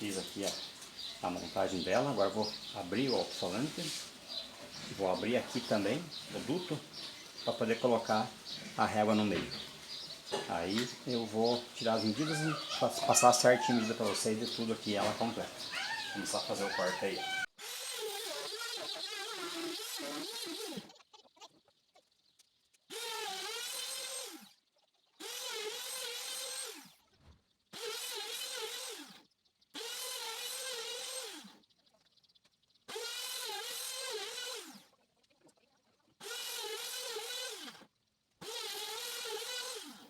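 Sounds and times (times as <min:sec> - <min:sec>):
power tool cutting wood: 0:00.0 - 0:20.9, 0:22.9 - 0:24.5, 0:25.2 - 0:26.9, 0:27.8 - 0:29.2, 0:29.8 - 0:31.5, 0:32.9 - 0:34.8, 0:36.2 - 0:37.8, 0:38.4 - 0:40.0.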